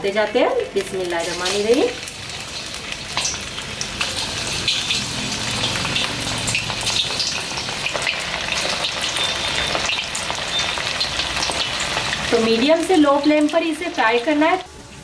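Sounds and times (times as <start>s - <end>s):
meat deep-frying in oil: 0.0s - 15.0s.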